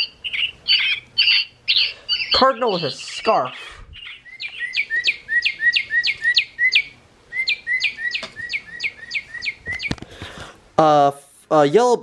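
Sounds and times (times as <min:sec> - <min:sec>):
toy playing recorded birdsong: 0:00.0 - 0:10.0.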